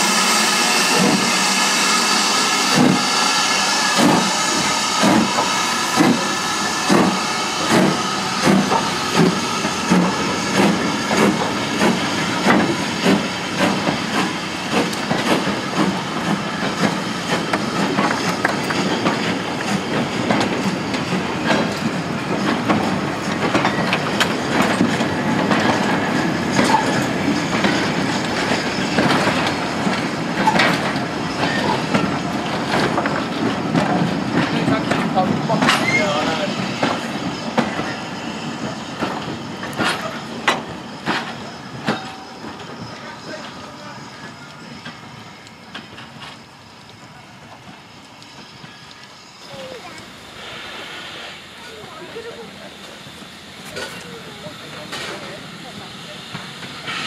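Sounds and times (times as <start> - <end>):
hissing steam: 0.0 - 57.0
steam locomotive exhaust beats: 0.0 - 57.0.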